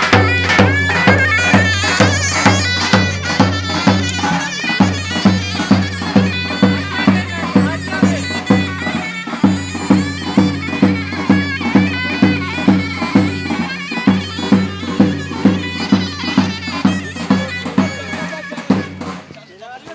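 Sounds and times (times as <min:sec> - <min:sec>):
shrill double-reed melody: 0:00.0 - 0:19.2
big bass drum beating: 0:00.0 - 0:19.3.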